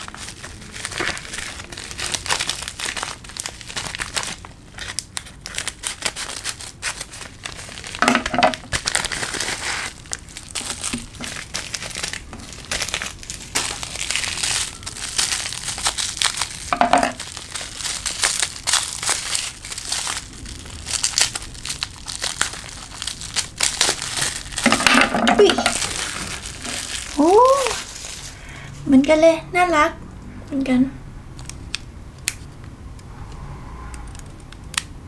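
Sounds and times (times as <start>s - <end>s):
plastic packaging crinkling: 0.0s - 28.5s.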